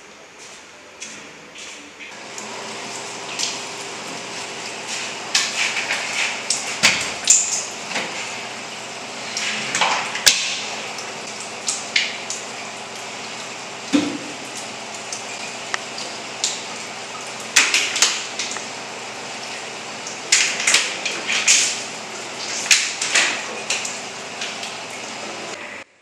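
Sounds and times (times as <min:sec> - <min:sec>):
water splashing in washbasin: 0:02.1 - 0:25.8.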